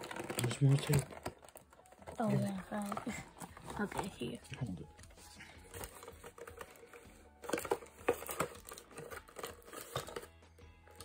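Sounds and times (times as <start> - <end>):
plastic packaging crinkling: 0.0 - 4.8, 5.6 - 11.0.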